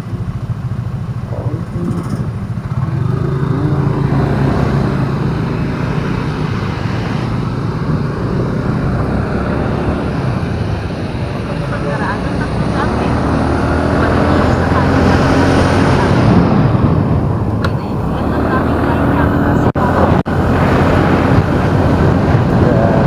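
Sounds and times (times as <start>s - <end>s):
road noise: 0.0s - 23.0s
vehicle engine running: 0.0s - 23.0s.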